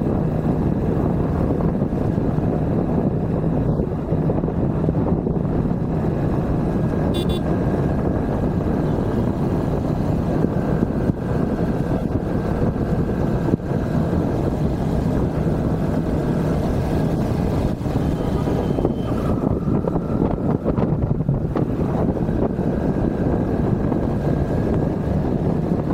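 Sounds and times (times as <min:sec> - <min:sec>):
vehicle rumbling on the move: 0:00.0 - 0:25.9.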